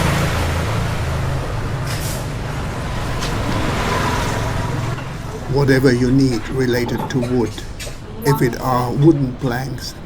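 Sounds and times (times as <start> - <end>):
heavy vehicle engine running: 0.0 - 9.6.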